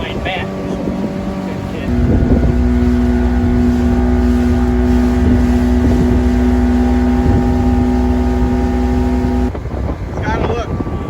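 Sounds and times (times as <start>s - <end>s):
motorboat engine running: 0.0s - 11.0s
wind rumbling on microphone: 0.0s - 11.0s.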